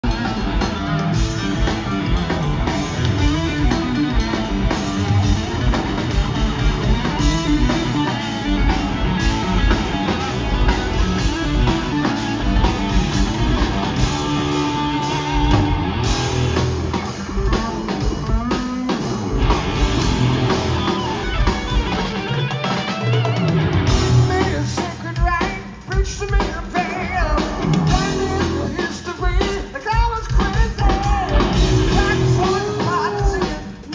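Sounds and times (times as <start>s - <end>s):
electric bass: 0.0s - 25.0s, 27.0s - 28.9s, 30.5s - 33.6s
drum kit: 0.0s - 33.9s
electric guitar: 0.0s - 33.9s.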